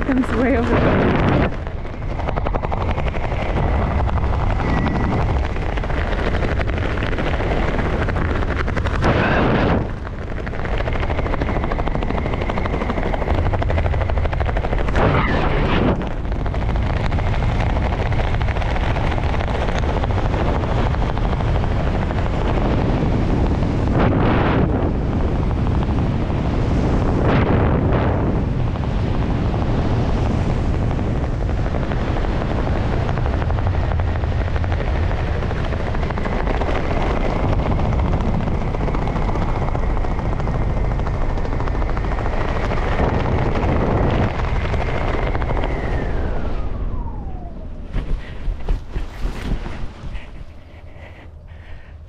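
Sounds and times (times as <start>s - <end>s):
wind roaring over microphone: 0.0s - 52.0s.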